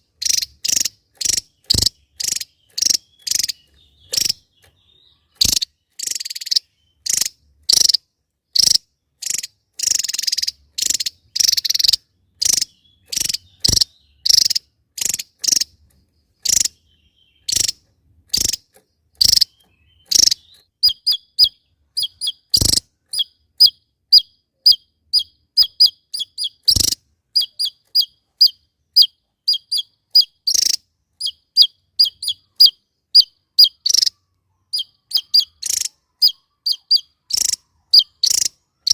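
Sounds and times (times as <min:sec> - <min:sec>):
bird singing high chips: 0:00.0 - 0:38.9.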